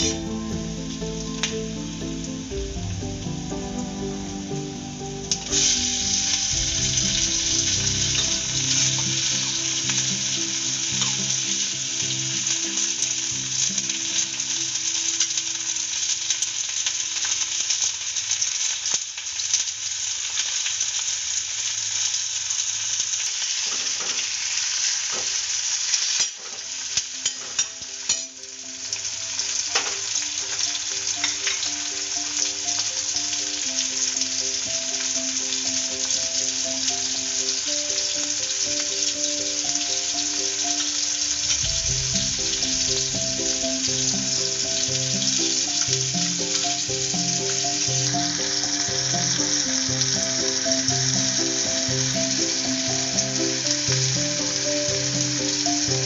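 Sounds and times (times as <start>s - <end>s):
onions and tomatoes sizzling in oil: 0.0s - 56.0s.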